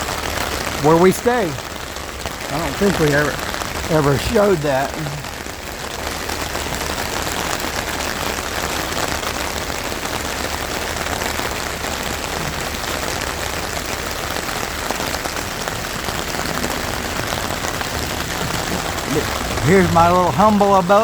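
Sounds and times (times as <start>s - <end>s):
rain pattering on a tent: 0.0s - 21.0s.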